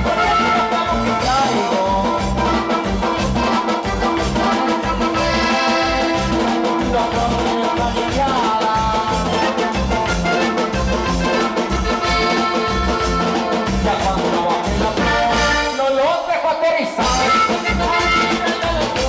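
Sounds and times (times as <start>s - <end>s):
button accordion melody: 0.0s - 16.0s, 17.0s - 19.0s
electric bass: 0.0s - 16.0s, 17.0s - 19.0s
drums keeping a steady beat: 0.0s - 19.0s.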